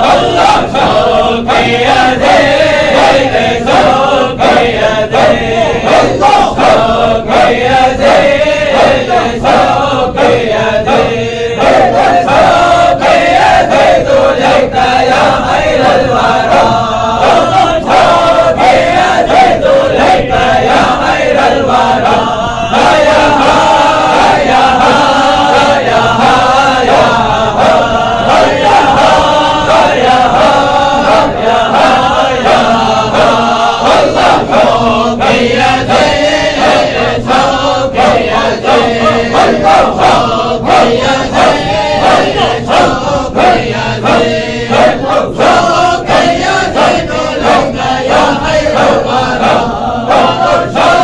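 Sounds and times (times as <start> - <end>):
men chanting in unison: 0.0 - 51.0.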